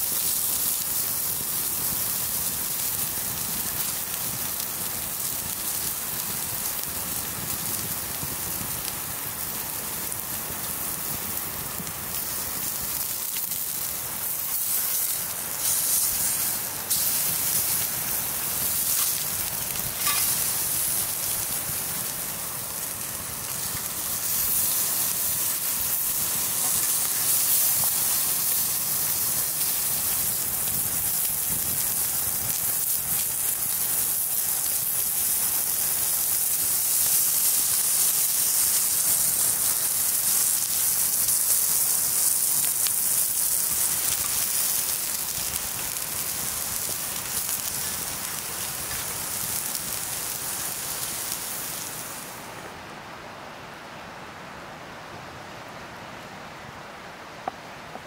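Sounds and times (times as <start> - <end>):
food sizzling over a fire: 0.0 - 52.8.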